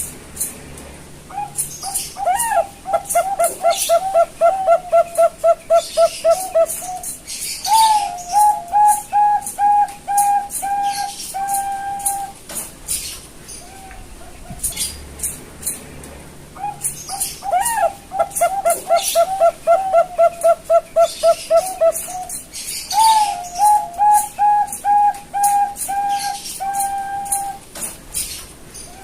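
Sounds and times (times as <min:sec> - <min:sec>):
dove cooing: 0:01.3 - 0:12.4, 0:16.6 - 0:29.0.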